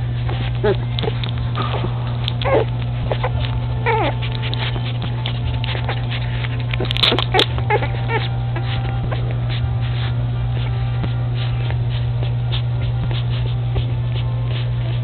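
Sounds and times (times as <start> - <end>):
puppies squeaking and whimpering: 0.0 - 15.0
steady low hum: 0.0 - 15.0
sucking and shuffling ticks: 0.0 - 15.0.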